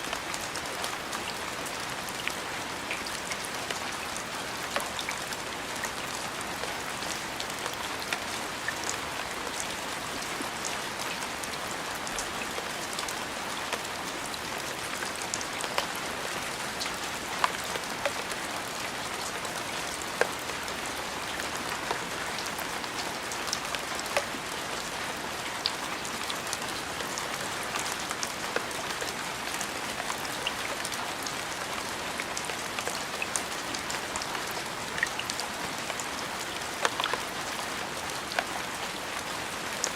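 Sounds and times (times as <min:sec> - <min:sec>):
raindrops ticking on surface: 0:00.0 - 0:39.9
steady rain hiss: 0:00.0 - 0:39.9.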